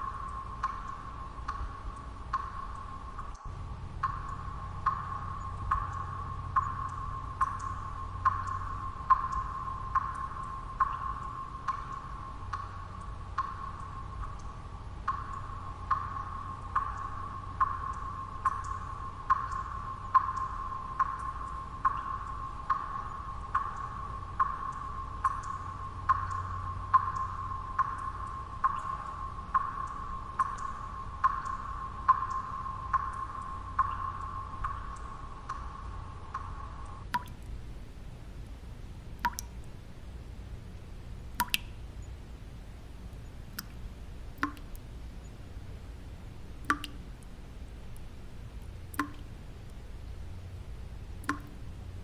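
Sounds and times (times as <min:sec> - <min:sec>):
water drops plinking: 0:00.0 - 0:14.5, 0:15.1 - 0:35.7, 0:37.1 - 0:52.0
low white noise: 0:00.0 - 0:52.0.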